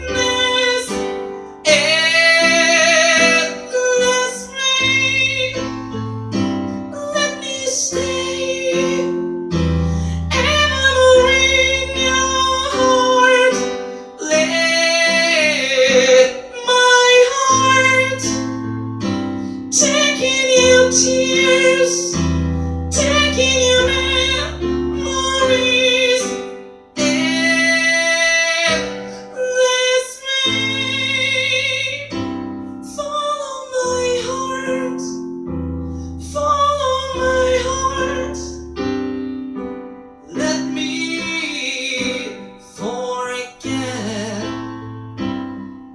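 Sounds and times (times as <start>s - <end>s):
piano accompaniment: 0.0s - 45.9s.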